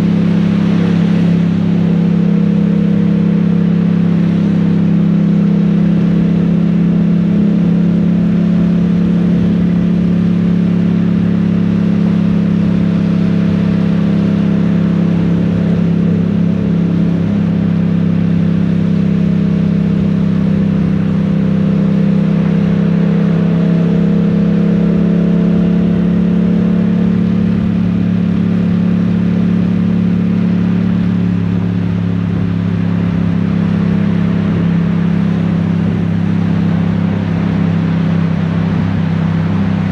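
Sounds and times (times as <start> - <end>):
motorcycle engine cruising: 0.0 - 39.9
steady rushing noise: 0.0 - 39.9.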